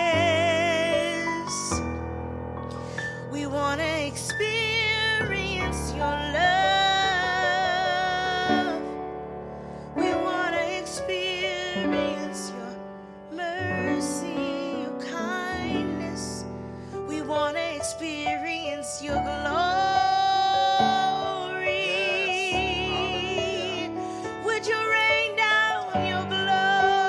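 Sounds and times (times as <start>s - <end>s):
piano chords: 0.0s - 27.0s.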